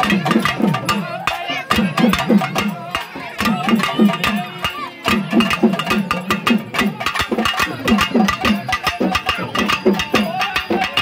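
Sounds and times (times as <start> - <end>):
folk drums beaten with sticks: 0.0 - 11.0.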